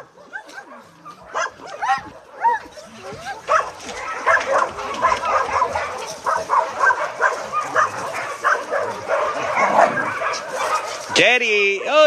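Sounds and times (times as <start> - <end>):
dogs barking and yipping: 0.0 - 11.4.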